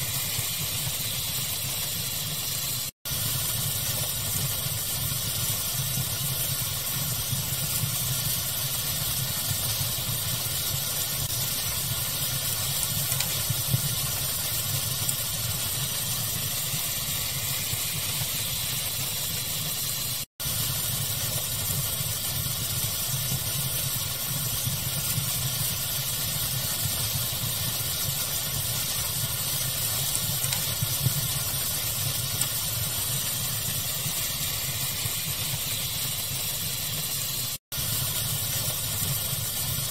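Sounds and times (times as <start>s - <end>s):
crackling fire: 0.0s - 39.9s
pink-noise hiss: 0.0s - 39.9s.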